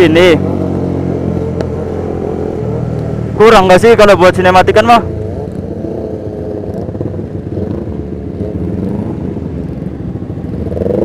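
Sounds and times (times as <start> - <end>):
group of motorcycle engines: 0.0 - 11.0
motorcycle engine running: 0.0 - 11.0.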